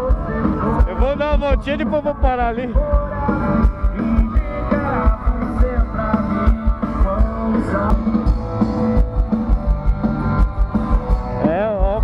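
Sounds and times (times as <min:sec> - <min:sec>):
drum kit beat: 0:00.0 - 0:12.0
guitar: 0:00.0 - 0:12.0.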